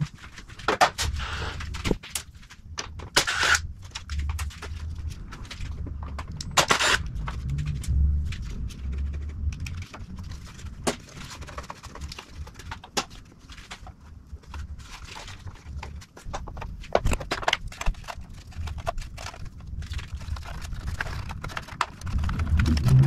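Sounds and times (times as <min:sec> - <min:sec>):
plastic parts clicking and knocking: 0:00.0 - 0:23.0.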